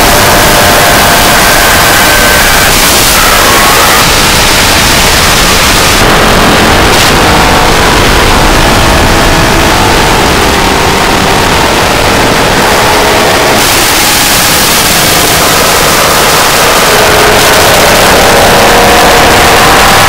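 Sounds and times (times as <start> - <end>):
harsh electronic noise music: 0.0 - 20.0
steady held tones: 0.0 - 20.0.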